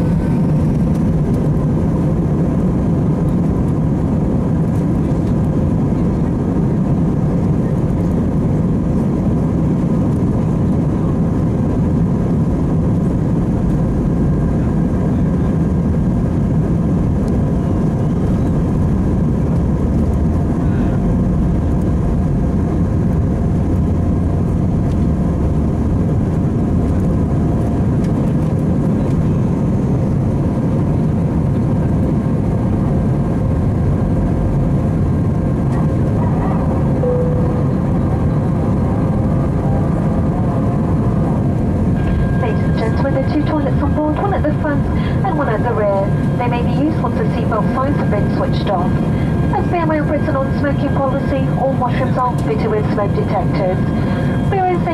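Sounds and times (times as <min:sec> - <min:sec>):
airplane cabin engine roar: 0:00.0 - 0:54.9.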